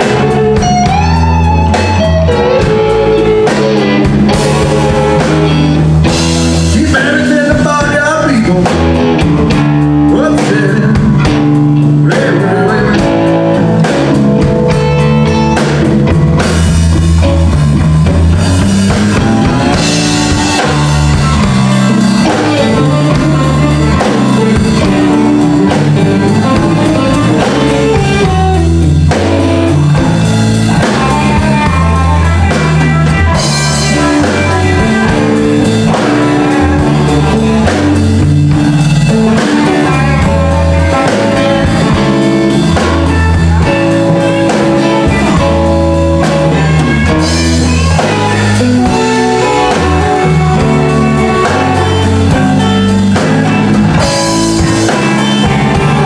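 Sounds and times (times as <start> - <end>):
drum kit: 0.0 - 56.0
electric bass walking: 0.0 - 56.0
electric guitars: 0.0 - 56.0.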